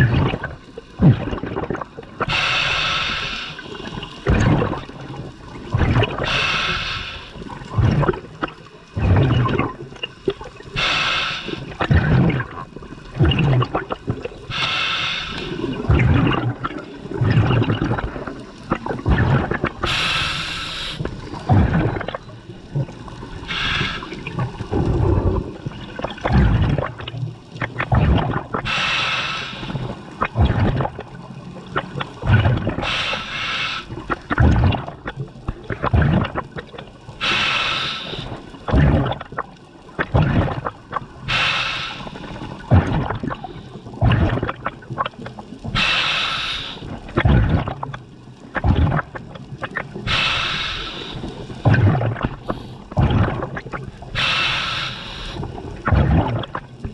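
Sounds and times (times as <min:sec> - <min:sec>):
exhaled bubbles rushing: 0:00.0 - 0:56.9
underwater gurgling: 0:00.0 - 0:56.9.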